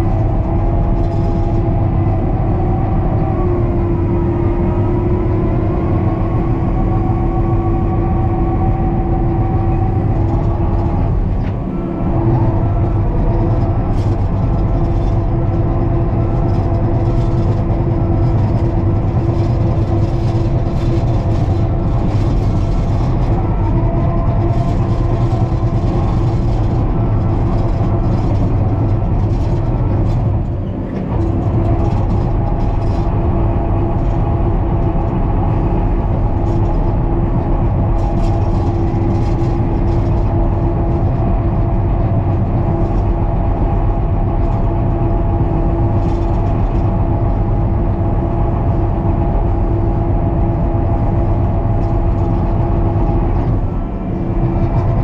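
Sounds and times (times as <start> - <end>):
light irregular clatter: 0.0 - 2.2, 6.9 - 55.0
bulldozer diesel engine running: 0.0 - 55.0
steady whine: 0.0 - 55.0.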